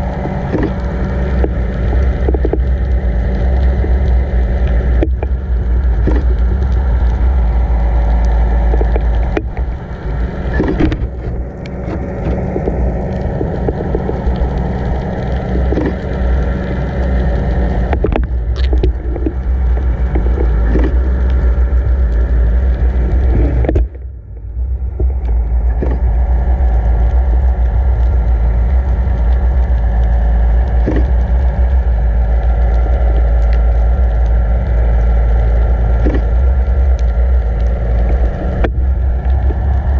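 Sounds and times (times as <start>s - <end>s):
boat motor hum: 0.0s - 39.9s
underwater water rushing: 0.0s - 39.9s.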